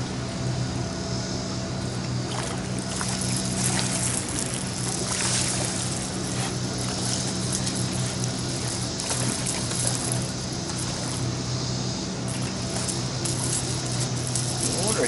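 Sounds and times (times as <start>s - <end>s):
steady low hum: 0.0s - 15.0s
water splashing: 2.2s - 11.5s, 12.1s - 15.0s.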